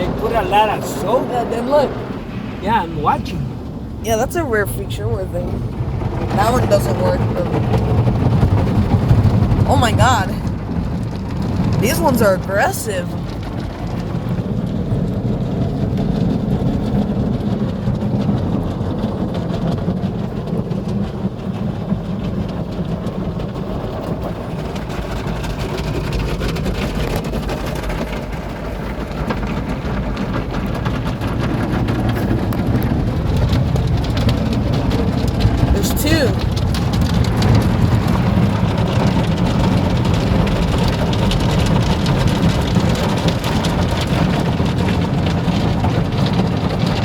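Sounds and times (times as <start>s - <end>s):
water spraying on car: 0.0s - 47.0s.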